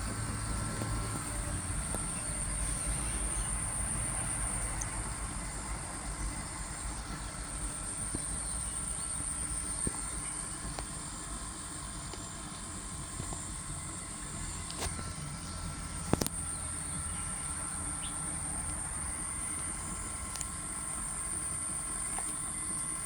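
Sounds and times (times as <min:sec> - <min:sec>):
air conditioner hum and whine: 0:00.0 - 0:23.0.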